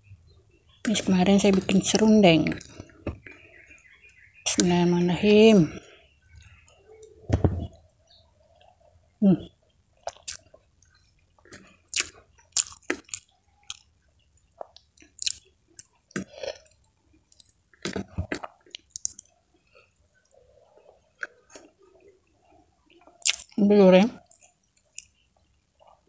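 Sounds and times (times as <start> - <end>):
close chewing with mouth clicks: 0.7 - 4.7, 5.8 - 7.2, 8.0 - 26.0.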